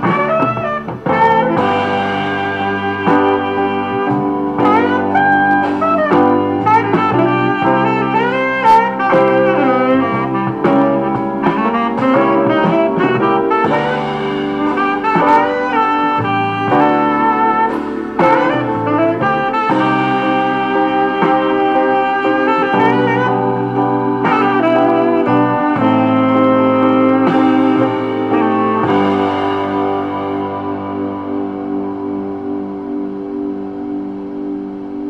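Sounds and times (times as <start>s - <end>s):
instrumental music with sliding melody: 0.0s - 35.0s.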